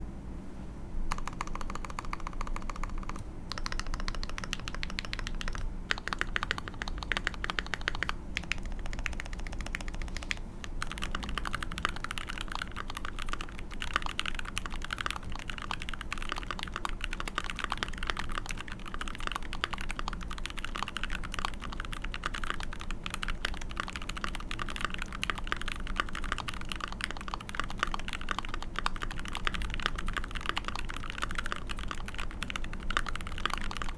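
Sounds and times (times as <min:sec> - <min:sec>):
fast mechanical keyboard typing: 0:01.1 - 0:33.9.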